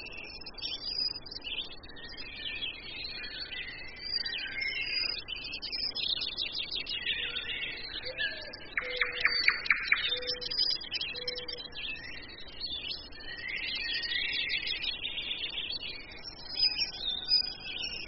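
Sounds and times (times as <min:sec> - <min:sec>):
birds chirping and twittering: 0:00.0 - 0:18.0.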